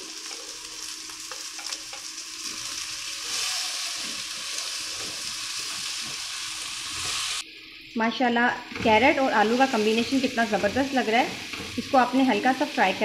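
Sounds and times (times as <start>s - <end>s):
vegetables sizzling in hot oil: 0.0s - 13.0s
spatula scraping wok: 1.2s - 7.4s, 8.6s - 13.0s.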